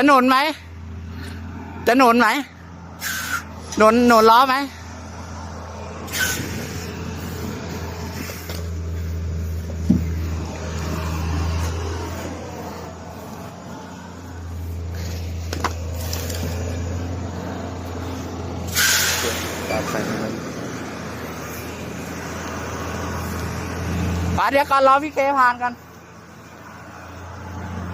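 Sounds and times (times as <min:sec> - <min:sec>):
diesel truck engine running: 0:00.0 - 0:27.9.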